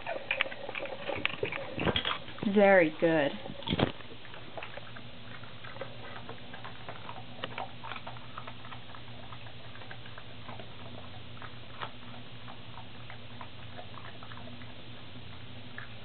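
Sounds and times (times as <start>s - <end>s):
dog chewing and licking: 0.0s - 16.0s
steady low hum: 0.0s - 16.0s.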